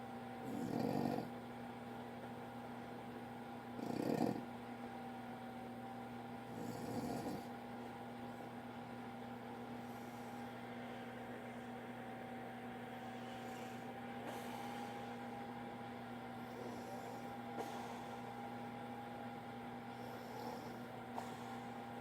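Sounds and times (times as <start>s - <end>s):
electrical hum with whine: 0.0s - 22.0s.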